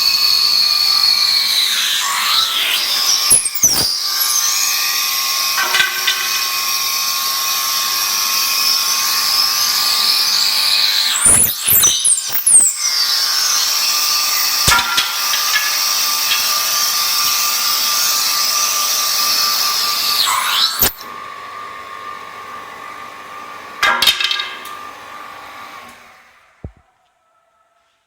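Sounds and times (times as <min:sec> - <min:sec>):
woodworking machine cutting wood: 0:00.0 - 0:26.8.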